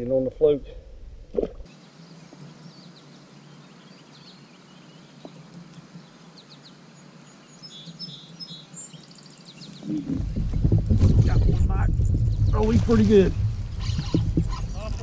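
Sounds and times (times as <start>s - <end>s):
faint outdoor hiss: 0.0s - 15.0s
small birds chirping: 1.6s - 15.0s.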